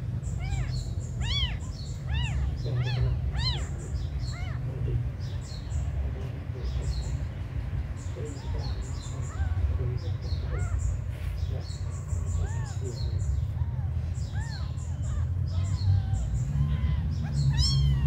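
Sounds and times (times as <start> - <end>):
kittens mewing: 0.0 - 18.0.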